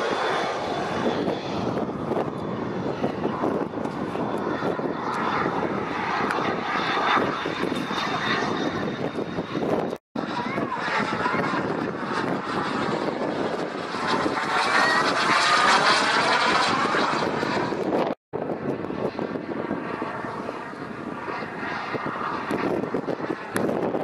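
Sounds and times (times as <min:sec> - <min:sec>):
model jet turbine rush and whine: 0:00.0 - 0:24.0.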